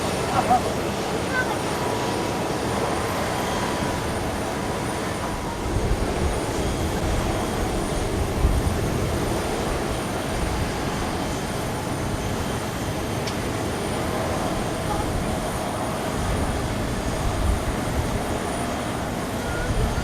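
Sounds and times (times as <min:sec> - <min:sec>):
airliner engine rumble: 0:00.0 - 0:20.0.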